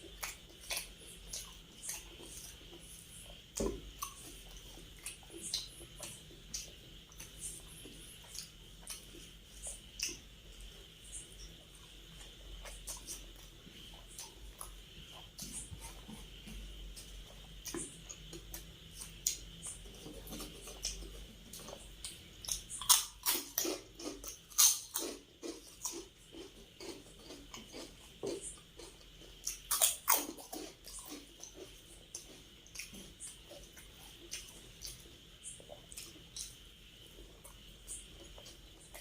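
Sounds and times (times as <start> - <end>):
close chewing of food: 0.0 - 39.0.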